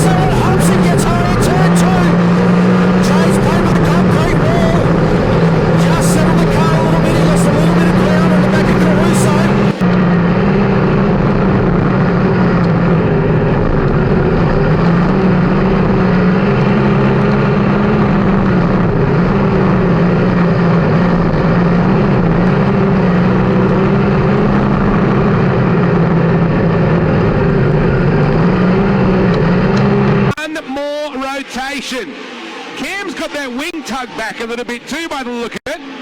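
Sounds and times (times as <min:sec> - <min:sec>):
race car engines droning: 0:00.0 - 0:36.0.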